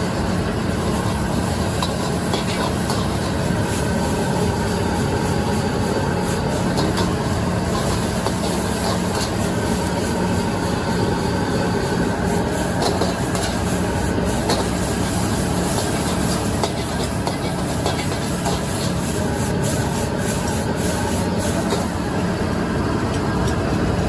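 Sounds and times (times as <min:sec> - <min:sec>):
noodles sizzling: 0:00.0 - 0:23.4
gas burner flame rushing: 0:00.0 - 0:24.0
metal ladle scraping wok: 0:00.8 - 0:22.1.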